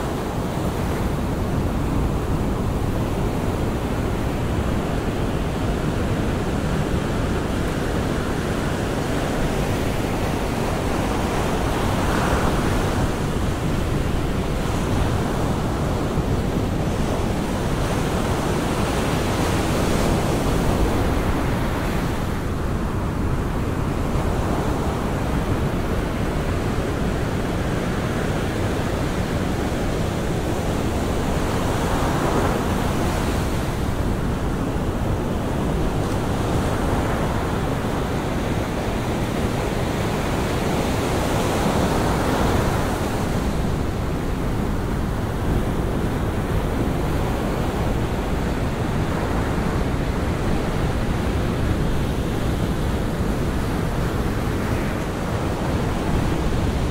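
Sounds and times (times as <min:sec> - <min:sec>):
ocean surf breaking on beach: 0:00.0 - 0:56.9.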